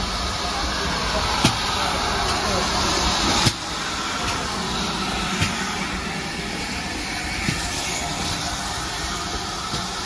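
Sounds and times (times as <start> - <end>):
steam locomotive hiss and rumble: 0.0 - 10.0.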